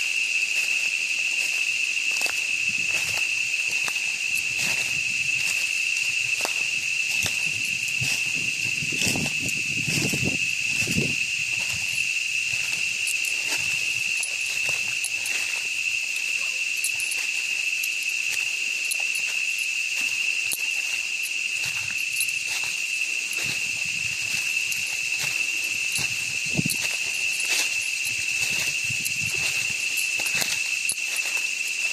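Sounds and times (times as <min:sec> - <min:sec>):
footsteps crunching in leaf litter: 0:00.0 - 0:31.9
high-pitched insect drone: 0:00.0 - 0:31.9.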